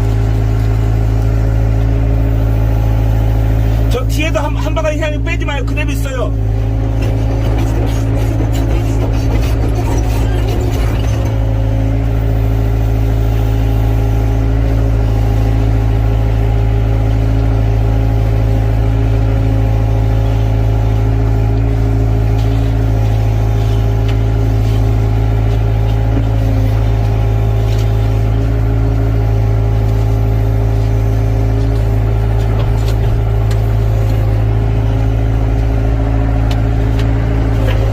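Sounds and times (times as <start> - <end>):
excavator engine humming: 0.0 - 37.9.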